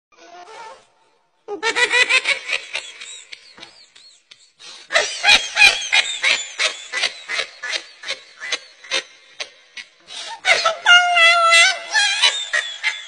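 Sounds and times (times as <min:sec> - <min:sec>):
high-pitched laughter: 0:01.5 - 0:13.0.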